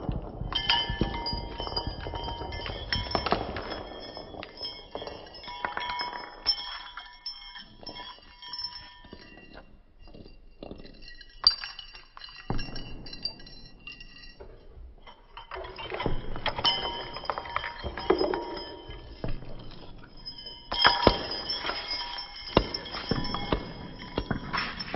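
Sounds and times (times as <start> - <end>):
objects clinking and rattling: 0.0 - 24.9.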